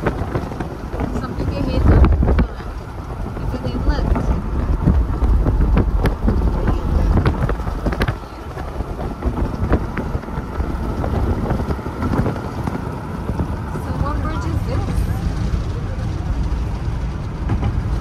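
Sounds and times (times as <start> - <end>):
car wind and road noise: 0.0 - 18.0.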